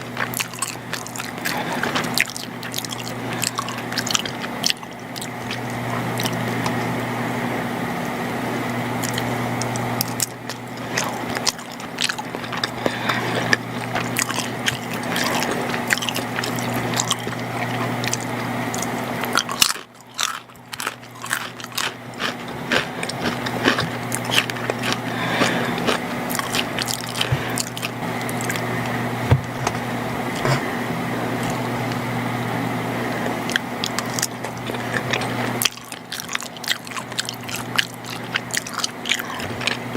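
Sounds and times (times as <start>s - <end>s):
close chewing with wet mouth clicks: 0.0s - 6.8s, 9.0s - 28.7s, 33.2s - 39.9s
steady low hum: 0.0s - 39.9s.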